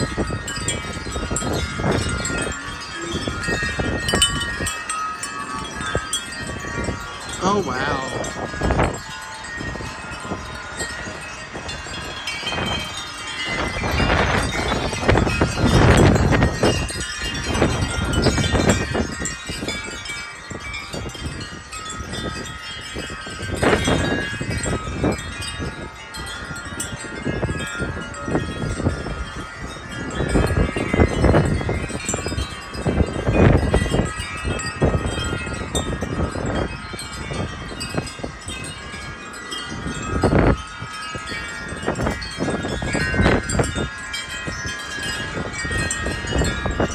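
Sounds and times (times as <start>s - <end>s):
wind buffeting microphone: 0.0s - 46.9s
wind chimes ringing: 0.0s - 46.9s.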